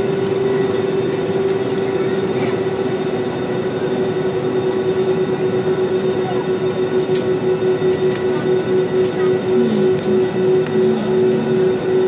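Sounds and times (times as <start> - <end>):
airliner cabin hum: 0.0 - 12.0
jet engines idling rush: 0.0 - 12.0.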